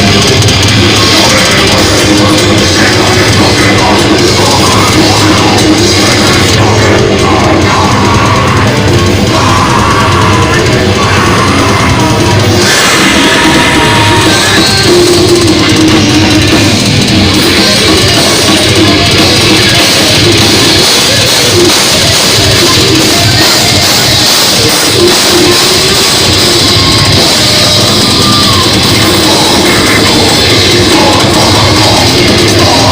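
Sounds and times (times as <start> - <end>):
drum kit: 0.0 - 32.9
heavy metal music: 0.0 - 32.9.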